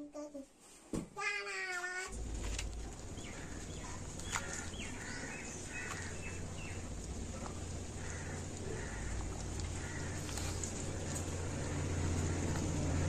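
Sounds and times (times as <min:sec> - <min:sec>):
low hum and hiss: 0:00.0 - 0:13.0
birds chirping: 0:02.1 - 0:13.0.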